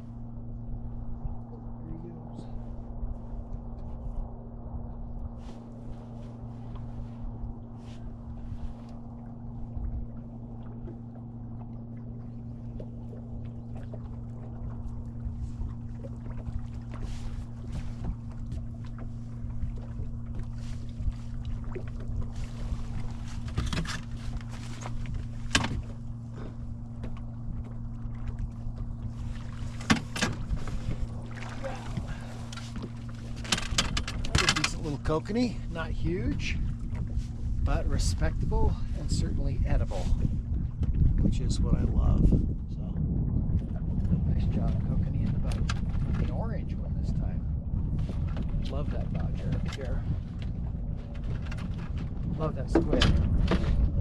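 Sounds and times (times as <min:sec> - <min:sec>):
boat motor humming: 0:00.0 - 0:54.0.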